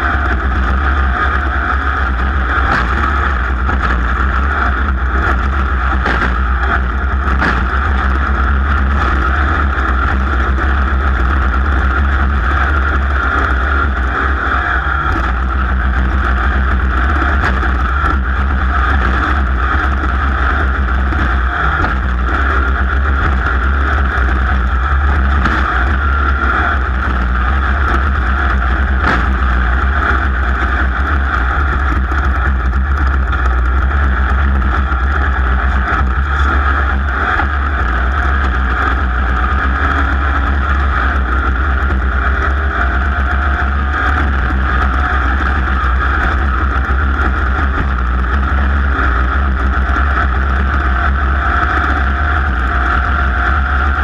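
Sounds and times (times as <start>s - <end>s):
race car engine at speed: 0.0s - 54.0s.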